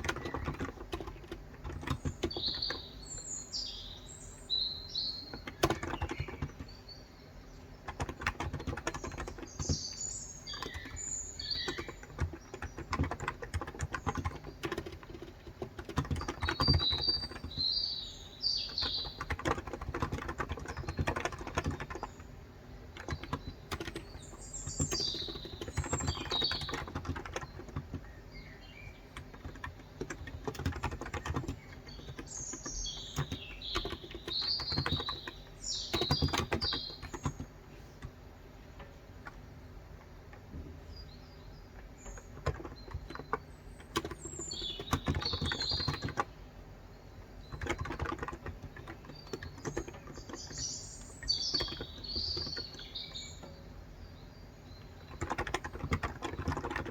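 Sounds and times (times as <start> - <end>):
keyboard typing: 0.0 - 3.2, 5.2 - 6.8, 7.8 - 38.2, 41.7 - 46.4, 47.2 - 53.6, 54.7 - 56.9
small birds chirping: 0.0 - 56.9.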